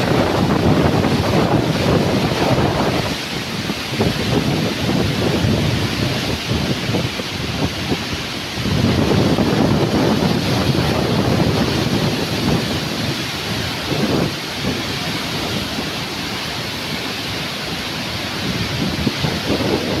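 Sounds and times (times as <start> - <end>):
rushing churning water: 0.0 - 20.0.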